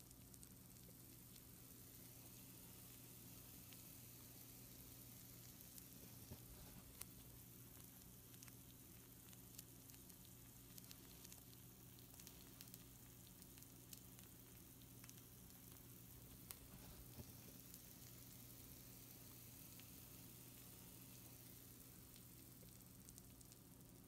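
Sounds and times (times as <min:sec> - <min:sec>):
food sizzling on baking sheet: 0:00.0 - 0:24.0
low steady hum: 0:00.0 - 0:24.0
tiny crackles and pops: 0:00.0 - 0:24.0.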